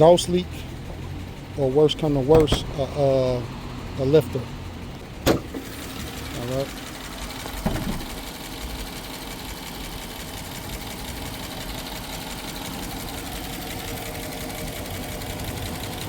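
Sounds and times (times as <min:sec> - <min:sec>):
car engine idling: 0:00.0 - 0:16.0
fast light engine ticking: 0:00.0 - 0:16.0.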